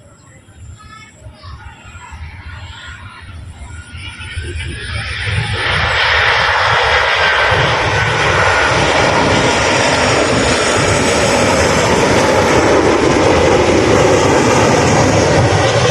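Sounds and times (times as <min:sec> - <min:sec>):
faint engine whine: 0:00.0 - 0:15.9
jet engines roaring overhead: 0:00.0 - 0:15.9.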